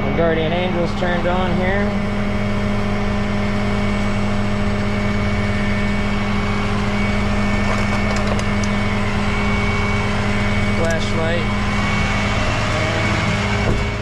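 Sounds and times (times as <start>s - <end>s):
electrical buzz: 0.0s - 14.0s
truck engine idling: 0.0s - 14.0s.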